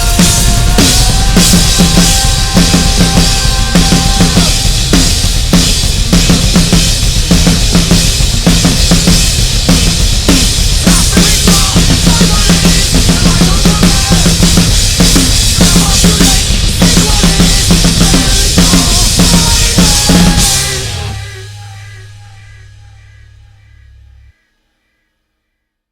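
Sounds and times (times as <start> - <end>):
drum kit played hard: 0.0 - 24.4.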